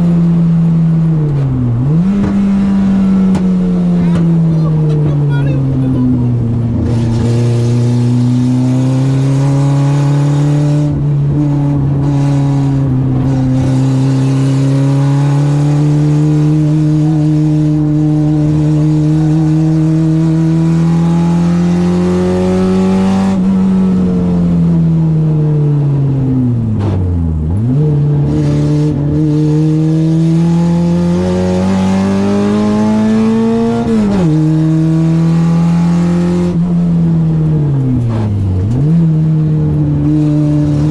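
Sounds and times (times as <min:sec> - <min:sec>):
car engine revving at high revs: 0:00.0 - 0:40.9.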